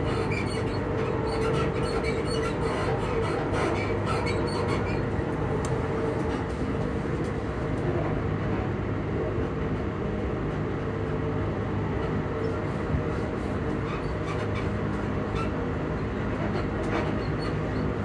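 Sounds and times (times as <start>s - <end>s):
train motors humming: 0.0s - 18.0s
wheels rumbling on rail: 0.0s - 18.0s.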